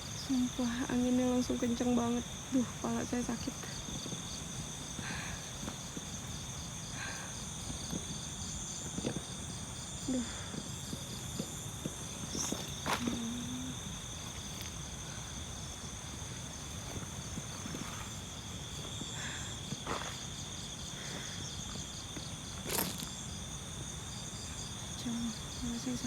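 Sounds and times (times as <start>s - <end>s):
crickets and insects trilling: 0.0s - 26.0s.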